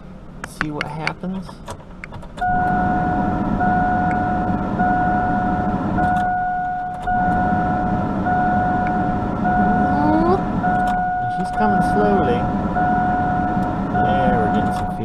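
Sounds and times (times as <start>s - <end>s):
electronic warning chime beeping: 2.4s - 15.0s.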